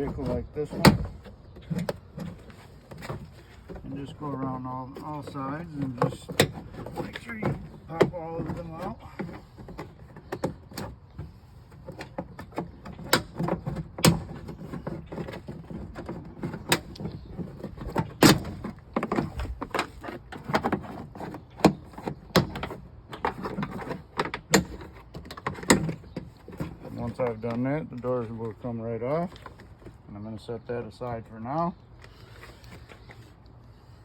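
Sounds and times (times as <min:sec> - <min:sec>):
panel scraping and rattling: 0:00.0 - 0:28.4.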